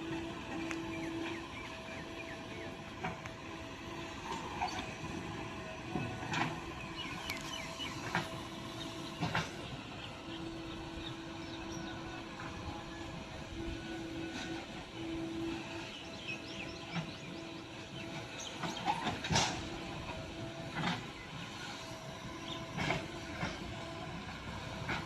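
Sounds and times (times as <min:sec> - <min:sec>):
backhoe loader engine hum: 0:00.0 - 0:25.0.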